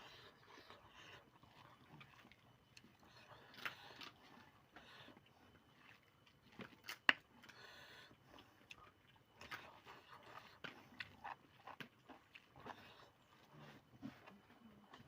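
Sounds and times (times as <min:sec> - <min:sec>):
person chewing: 0:00.1 - 0:15.0.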